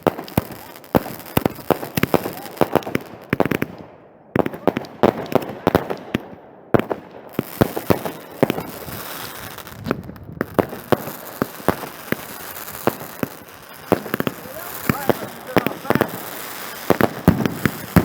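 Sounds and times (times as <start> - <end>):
fireworks crackle: 0.0 - 3.8, 4.4 - 18.0
fireworks bangs and pops: 0.0 - 18.0.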